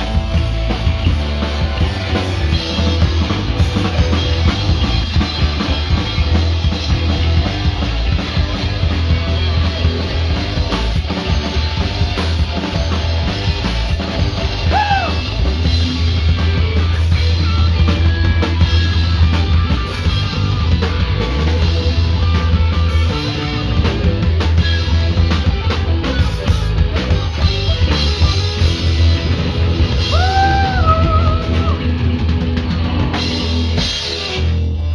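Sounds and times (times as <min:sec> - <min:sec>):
bending high guitar notes: 0:00.0 - 0:34.9
punk rock band playing: 0:00.0 - 0:34.9.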